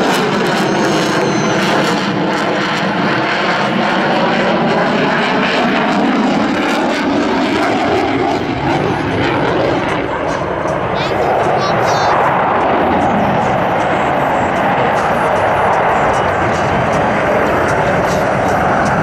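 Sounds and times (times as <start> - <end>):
jet engines at high power: 0.0 - 19.0.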